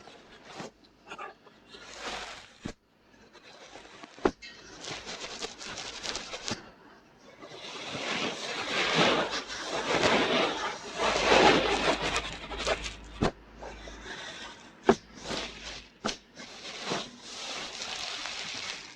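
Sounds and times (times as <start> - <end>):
scratching at microphone: 0.0 - 6.7, 7.4 - 18.9.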